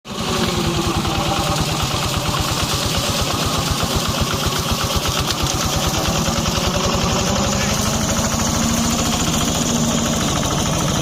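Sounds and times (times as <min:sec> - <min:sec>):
brush cutter engine running: 0:00.1 - 0:11.0.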